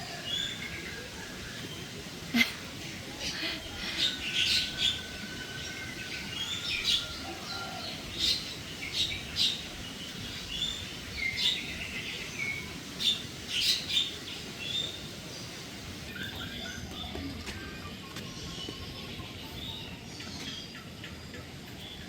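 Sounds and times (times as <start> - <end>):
birds chirping: 0.0 - 22.0
steady low background noise: 0.0 - 22.0.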